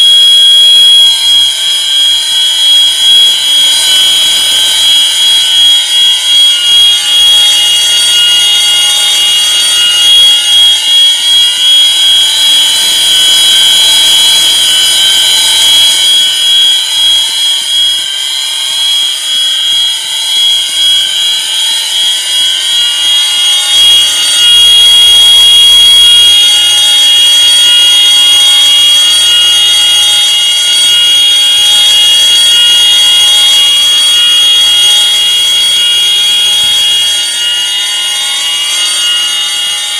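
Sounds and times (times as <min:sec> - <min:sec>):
fire alarm horns whooping: 0:00.0 - 0:39.9
steady high-pitched ringing tone: 0:00.0 - 0:39.9.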